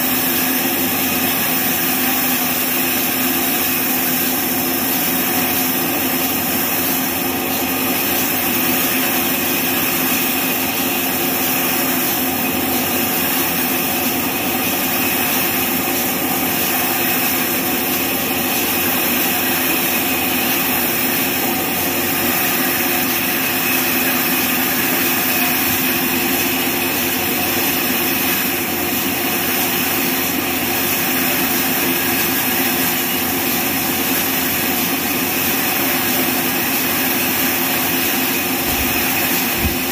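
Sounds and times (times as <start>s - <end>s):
band saw drone: 0.0s - 39.9s.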